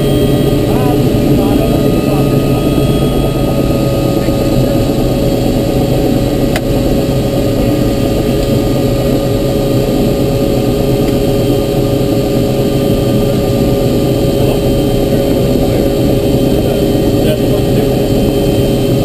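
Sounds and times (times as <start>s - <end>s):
helicopter engine and rotor running: 0.0s - 19.0s.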